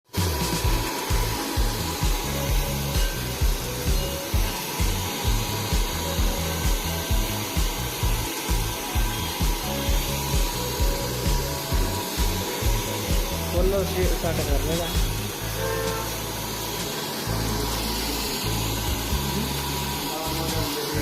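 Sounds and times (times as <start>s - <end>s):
background music with deep beat: 0.1s - 21.0s
hair dryer blowing: 0.1s - 21.0s.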